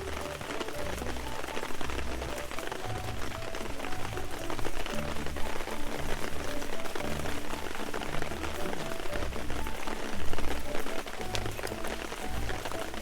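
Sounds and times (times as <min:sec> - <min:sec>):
background music with low bass: 0:00.0 - 0:13.0
campfire cooking crackling and sizzling: 0:00.0 - 0:13.0.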